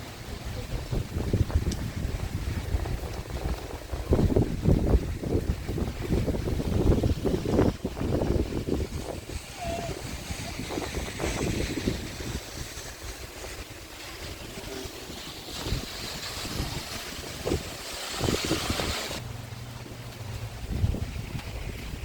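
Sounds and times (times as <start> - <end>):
rain on an umbrella: 0.0 - 22.0
wind buffeting microphone: 0.0 - 22.0.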